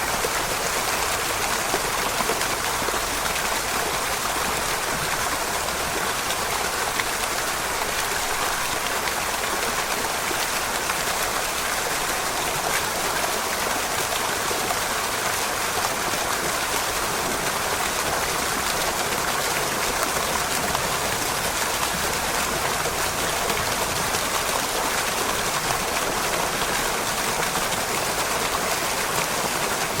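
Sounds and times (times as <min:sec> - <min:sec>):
fountain water splashing into basin: 0:00.0 - 0:30.0.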